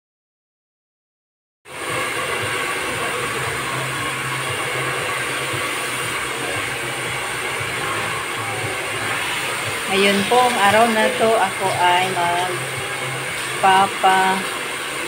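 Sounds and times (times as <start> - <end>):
low hum: 1.7 - 15.0
steady rushing noise: 1.7 - 15.0.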